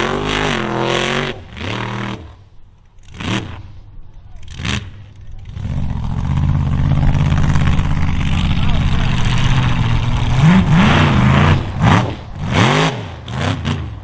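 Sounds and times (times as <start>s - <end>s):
truck engine revving: 0.0s - 2.4s, 3.0s - 3.8s, 4.4s - 14.0s.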